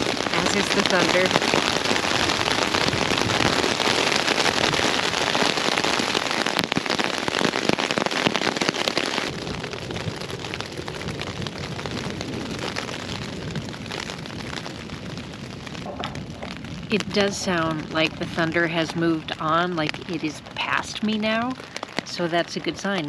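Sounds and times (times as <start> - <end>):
rain pattering on tent fabric: 0.0 - 23.0.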